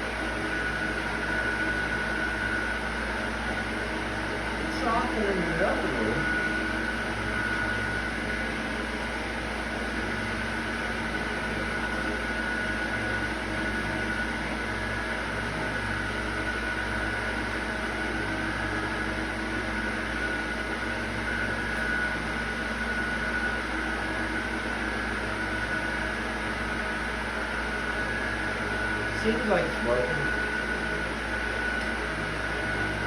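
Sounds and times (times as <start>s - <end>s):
machine hum with high whine: 0.0s - 33.0s.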